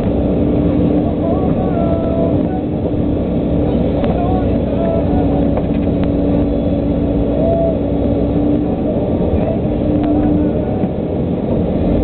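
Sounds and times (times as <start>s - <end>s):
excavator diesel engine running: 0.0s - 12.0s
steady whine: 0.0s - 12.0s.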